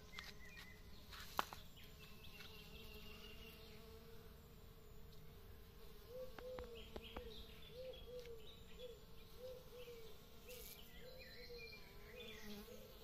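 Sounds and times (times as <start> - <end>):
bees buzzing: 0.0 - 13.0
songbirds chirping: 0.0 - 13.0.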